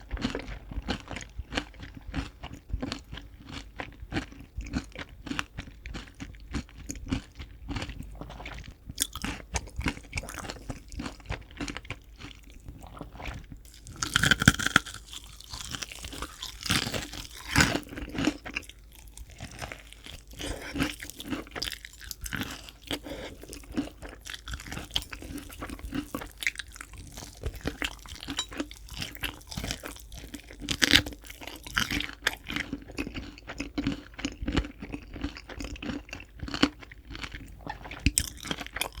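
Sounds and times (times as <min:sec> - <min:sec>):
crunchy chicken bitten and chewed: 0:00.0 - 0:39.0.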